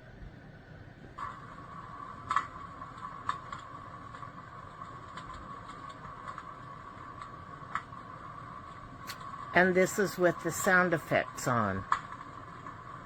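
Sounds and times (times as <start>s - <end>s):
heater fan whining: 0.0s - 13.0s.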